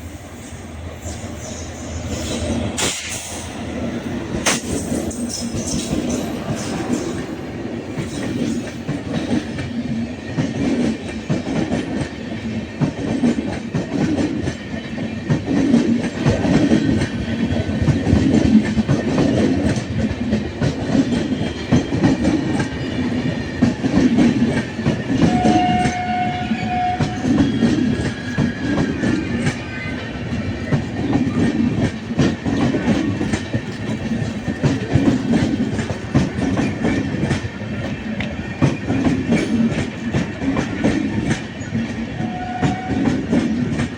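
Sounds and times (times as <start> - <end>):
train wheels clicking over rail joints: 0.9 - 43.9.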